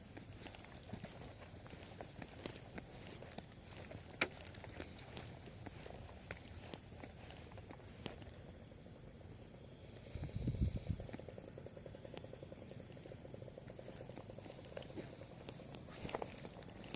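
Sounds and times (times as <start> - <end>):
high insect drone: 0.0 - 16.9.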